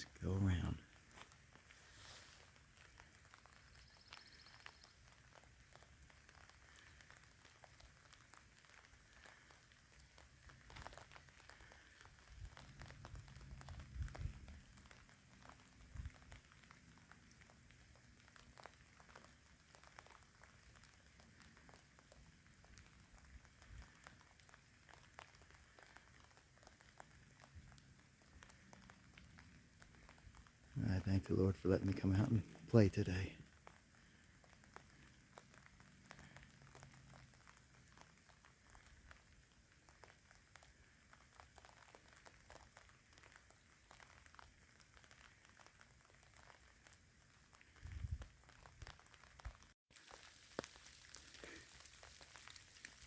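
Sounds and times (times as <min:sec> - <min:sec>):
light rain patter: 0:00.0 - 0:53.0
raindrops ticking near microphone: 0:00.0 - 0:53.0.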